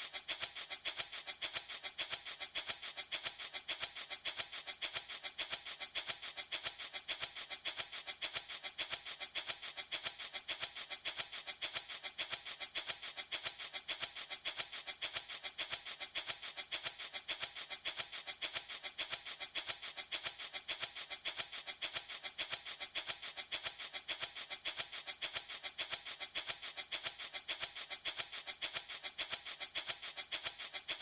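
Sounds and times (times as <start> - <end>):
wooden baby rattle shaken: 0.0 - 31.0.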